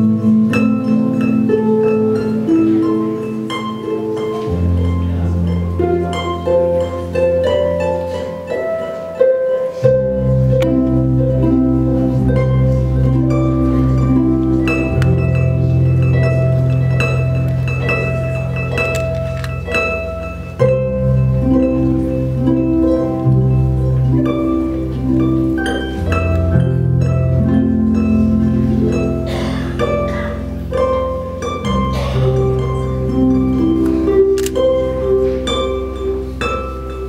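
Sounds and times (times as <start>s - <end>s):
harp notes plucked: 0.0s - 37.0s.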